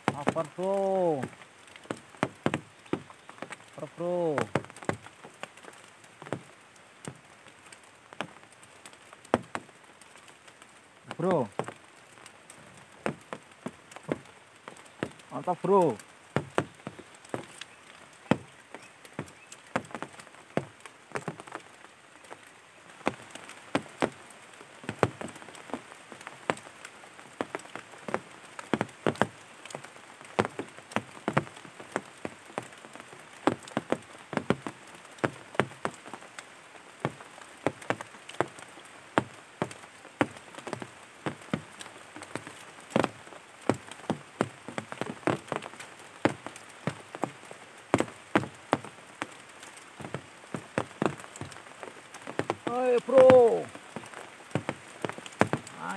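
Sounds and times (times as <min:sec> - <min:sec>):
faint steady hiss: 0:00.0 - 0:55.9
rain drops tapping: 0:00.0 - 0:55.9.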